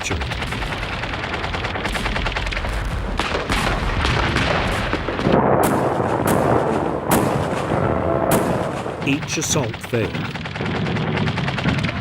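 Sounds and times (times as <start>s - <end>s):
gunshots: 0.0s - 12.0s
heavy rumbling blast: 0.0s - 12.0s
machine-gun fire: 0.0s - 12.0s.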